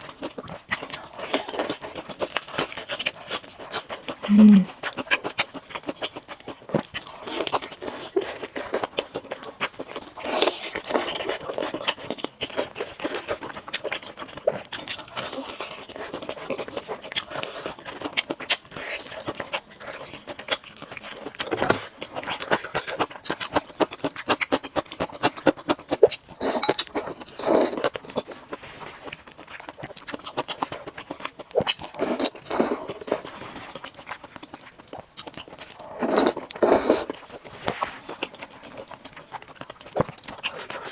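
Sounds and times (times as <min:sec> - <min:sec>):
chewing and slurping noodles: 0:00.0 - 0:40.9.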